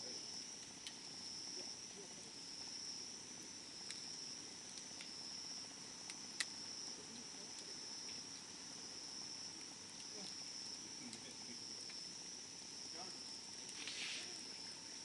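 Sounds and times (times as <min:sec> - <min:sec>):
campfire crackling and popping: 0:00.0 - 0:15.0
crickets chirring: 0:00.0 - 0:15.0.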